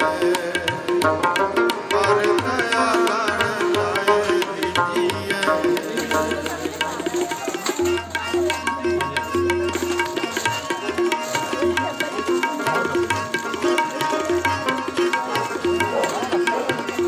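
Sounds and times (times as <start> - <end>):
held melodic notes: 0.0 - 17.0
tabla rhythm: 0.0 - 17.0.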